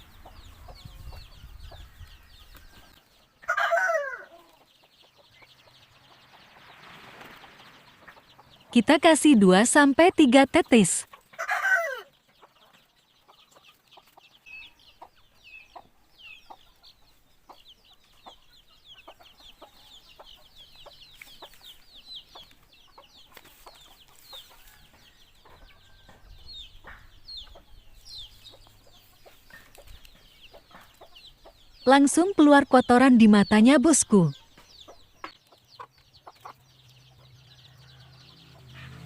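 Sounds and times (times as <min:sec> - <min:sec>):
birds chirping and peeping: 0:00.0 - 0:39.0.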